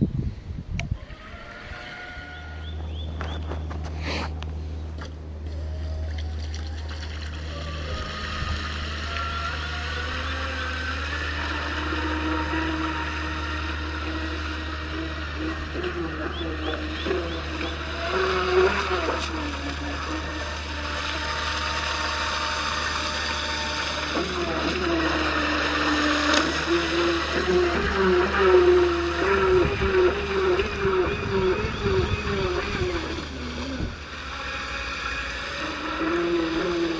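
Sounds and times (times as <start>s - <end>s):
electric motor driving propeller: 1.0s - 36.9s
water wash: 5.8s - 36.9s.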